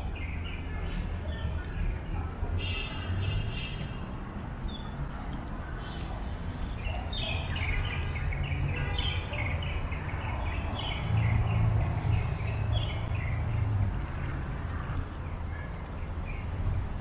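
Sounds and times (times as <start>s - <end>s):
small birds chirping: 0.0s - 4.0s, 4.6s - 16.8s.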